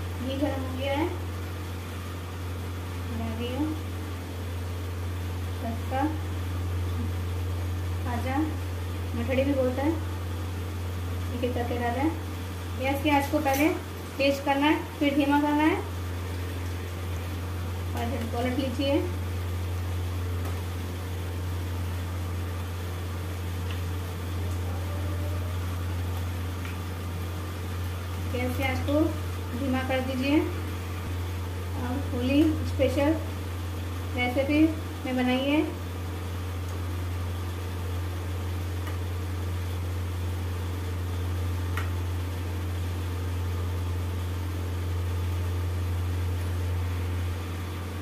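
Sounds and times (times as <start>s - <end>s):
dough frying in oil: 0.0s - 48.0s
steady low hum: 0.0s - 48.0s.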